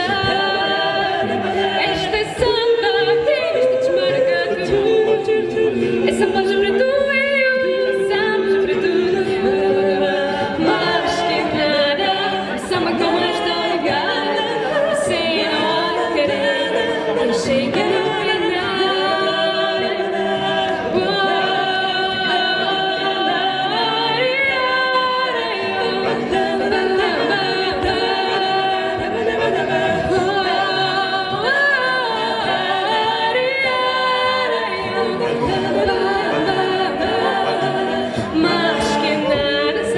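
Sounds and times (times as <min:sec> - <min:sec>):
a cappella group singing: 0:00.0 - 0:39.9.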